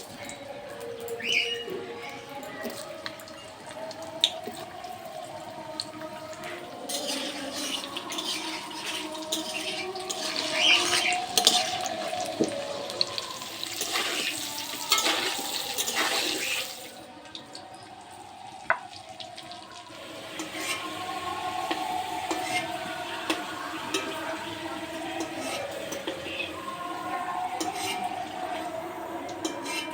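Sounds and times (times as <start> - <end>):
water pouring and splashing: 0.0 - 29.9.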